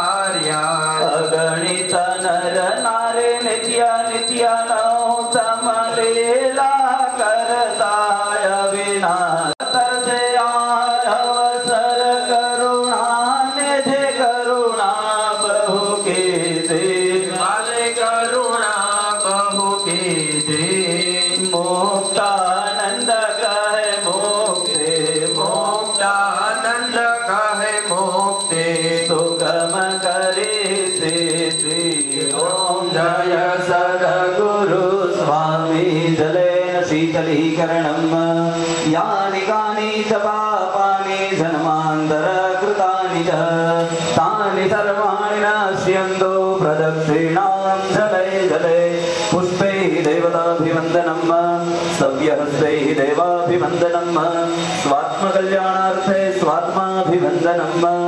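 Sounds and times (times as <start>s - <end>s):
steady high ringing tone: 0.0s - 58.0s.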